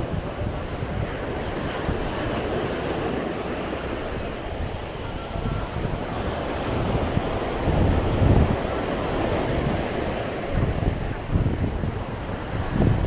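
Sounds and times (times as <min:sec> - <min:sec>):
surf washing on sandy beach: 0:00.0 - 0:13.0
wind buffeting microphone: 0:00.0 - 0:13.0.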